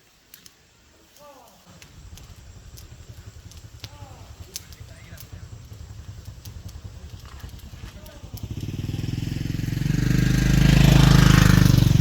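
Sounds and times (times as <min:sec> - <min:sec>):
vehicle engine approaching: 0:01.7 - 0:12.0.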